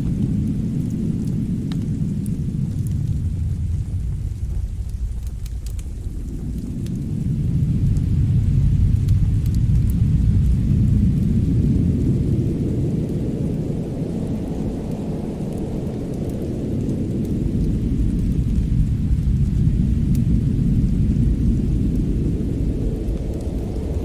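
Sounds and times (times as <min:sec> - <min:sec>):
deep continuous rumble: 0:00.0 - 0:24.0
faint crackles: 0:00.0 - 0:24.0.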